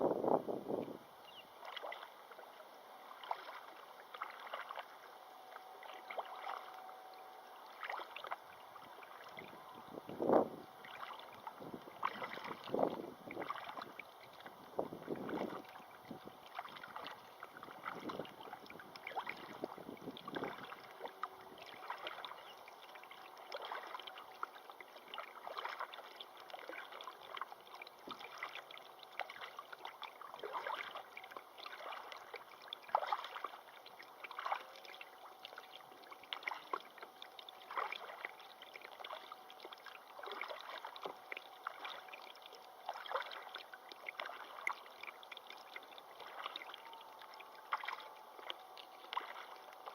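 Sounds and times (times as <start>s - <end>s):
river water splashing and gurgling: 0.0s - 49.9s.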